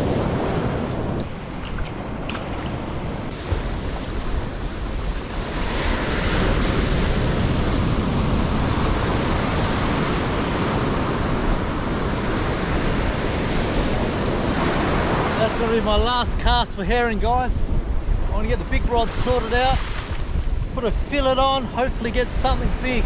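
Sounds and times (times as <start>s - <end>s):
ocean surf breaking: 0.0s - 23.0s.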